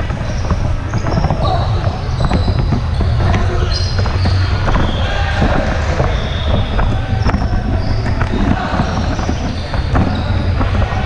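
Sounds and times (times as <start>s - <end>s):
crowd chatter echoing: 0.0s - 11.0s
sneakers squeaking on hardwood: 0.0s - 11.0s
volleyball hits and thumps: 0.0s - 11.0s.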